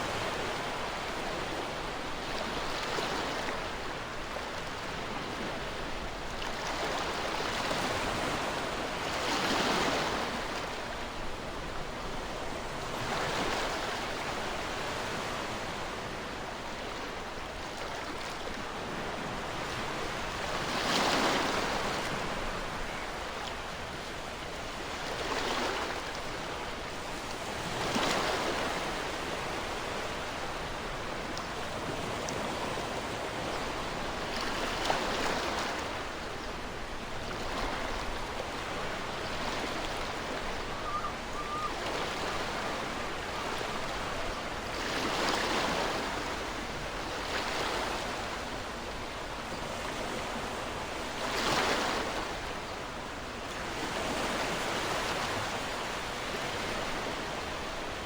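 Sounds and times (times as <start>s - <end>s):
ocean waves on shore: 0.0s - 58.0s.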